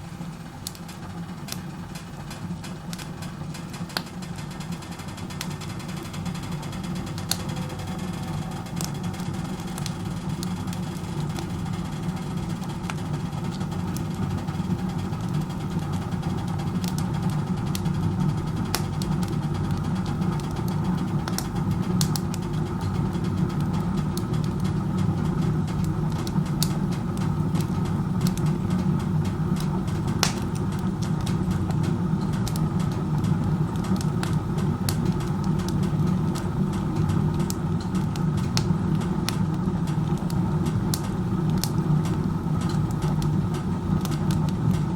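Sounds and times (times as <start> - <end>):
burning wood crackling: 0.0 - 44.9
low roar of chimney draft: 0.0 - 44.9.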